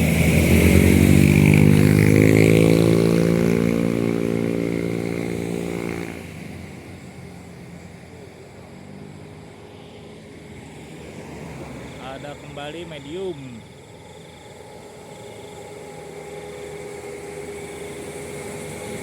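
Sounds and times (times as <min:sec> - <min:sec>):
diesel engine passing close: 0:00.0 - 0:19.0
low background drone: 0:00.0 - 0:19.0.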